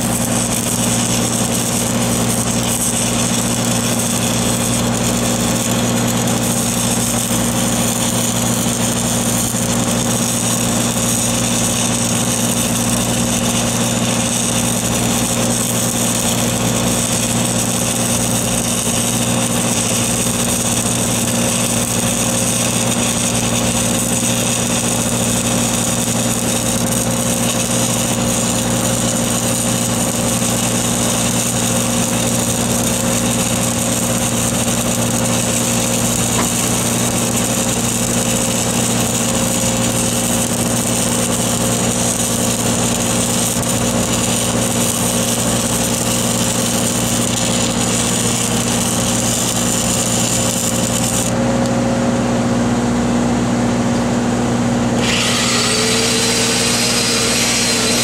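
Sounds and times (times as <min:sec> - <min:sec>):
welding machine engine drone: 0:00.0 - 0:58.0.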